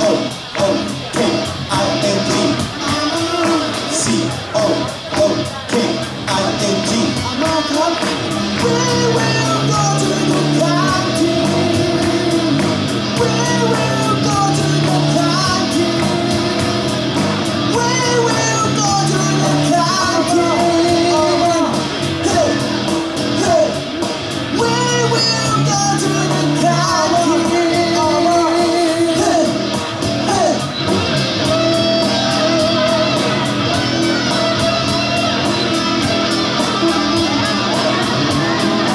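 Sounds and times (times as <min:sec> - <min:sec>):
live pop-rock band: 0:00.0 - 0:38.9
person singing: 0:00.0 - 0:38.9.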